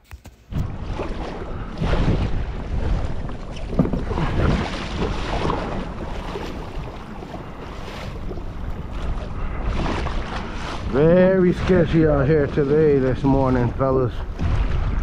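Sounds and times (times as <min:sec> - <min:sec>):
water moving around a kayak: 0:00.5 - 0:15.0
wind buffeting microphone: 0:00.5 - 0:15.0.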